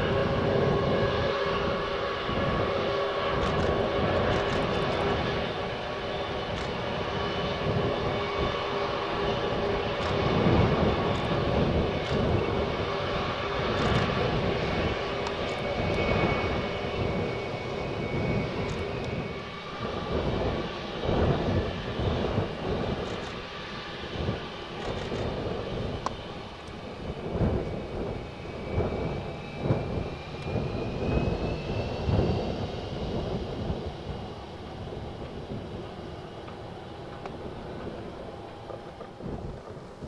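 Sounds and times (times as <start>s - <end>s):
jet engine roar with fan whine: 0.0s - 40.0s.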